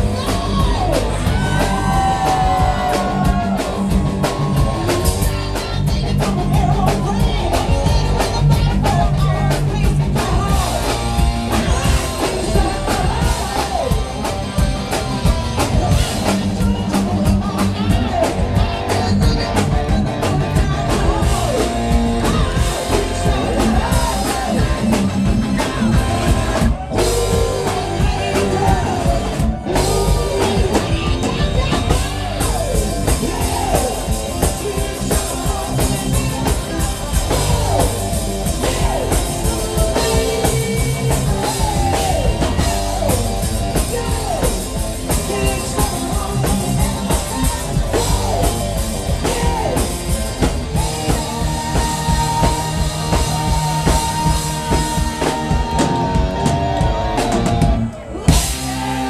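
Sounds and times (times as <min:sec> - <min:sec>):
person singing into a microphone: 0:00.0 - 0:57.6
bass guitar: 0:00.0 - 0:59.0
drum kit: 0:00.0 - 0:59.0
electric guitar: 0:00.0 - 0:59.0.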